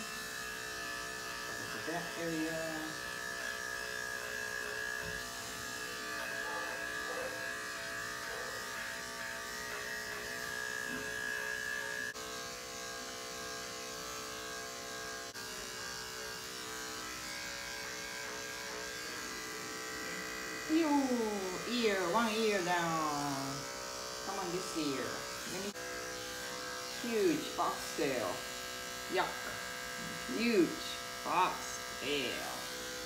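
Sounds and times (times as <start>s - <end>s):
electric clippers buzzing: 0.0s - 33.0s.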